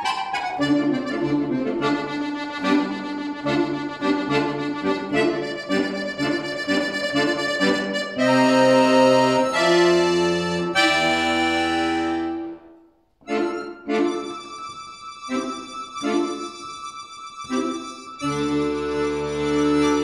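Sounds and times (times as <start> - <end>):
accordion playing: 0.0 - 20.0.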